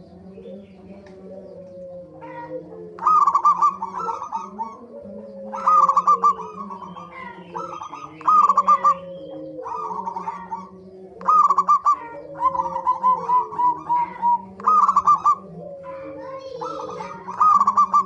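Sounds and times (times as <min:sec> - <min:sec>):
doves cooing bubbling notes: 0:00.0 - 0:18.0
low soft cooing: 0:00.0 - 0:18.0.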